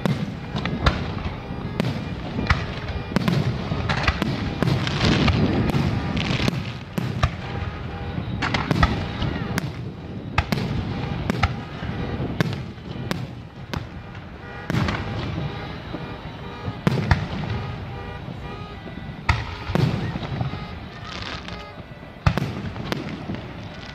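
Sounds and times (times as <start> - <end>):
fireworks bursting with sharp bangs: 0.0 - 23.9.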